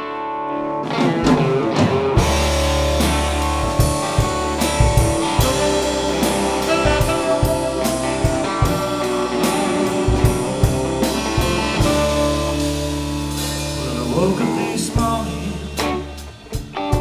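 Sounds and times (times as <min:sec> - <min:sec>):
live rock band playing: 0:00.0 - 0:17.0
brass sustained notes: 0:02.2 - 0:16.2.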